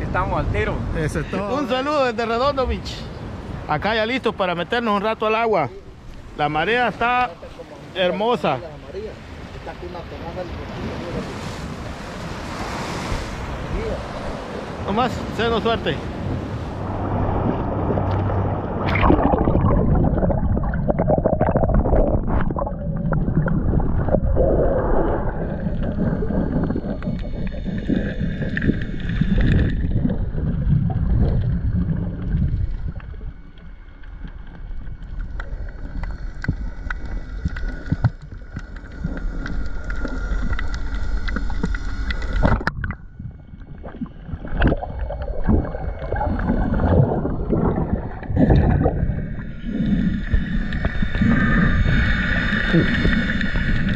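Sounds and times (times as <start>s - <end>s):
water splashing and gurgling: 5.8s - 53.9s.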